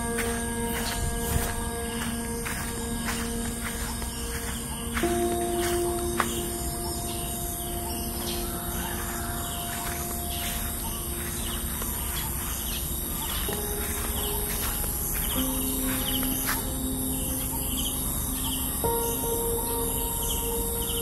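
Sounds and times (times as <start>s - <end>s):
birds chirping: 0.0s - 21.0s
soft held music chords: 0.0s - 21.0s
steady outdoor hiss: 0.0s - 21.0s.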